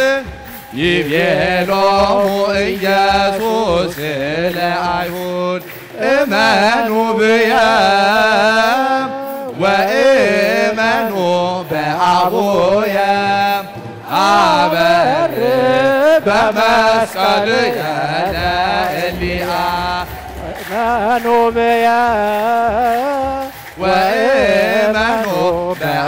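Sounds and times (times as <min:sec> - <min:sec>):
choir chanting a hymn: 0:00.0 - 0:26.0.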